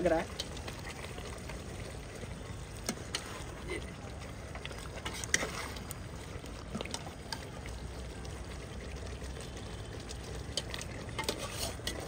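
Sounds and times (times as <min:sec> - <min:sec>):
gravy bubbling in a pot: 0:00.0 - 0:12.0.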